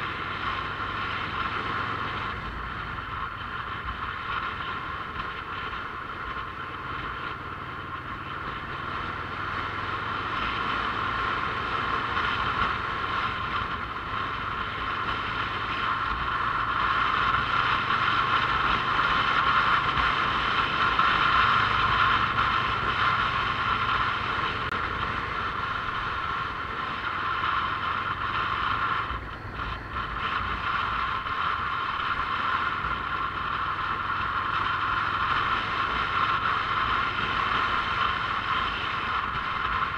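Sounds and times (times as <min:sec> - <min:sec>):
motorcycle engine: 0:00.0 - 0:39.9
road noise: 0:00.0 - 0:39.9.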